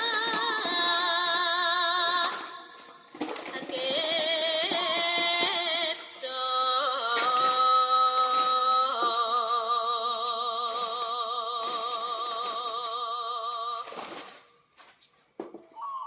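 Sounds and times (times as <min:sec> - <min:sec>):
person singing with vibrato: 0:00.0 - 0:14.5.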